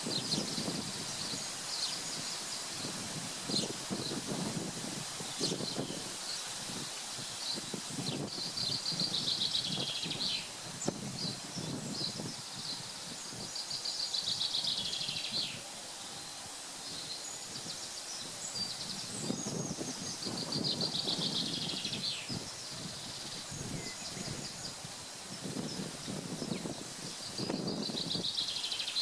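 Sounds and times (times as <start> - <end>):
outdoor background noise: 0.0 - 29.0
songbird singing: 0.0 - 29.0.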